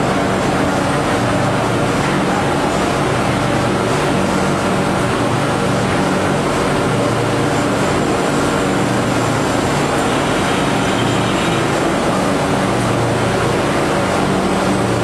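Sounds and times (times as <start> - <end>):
production line machinery humming: 0.0 - 15.0.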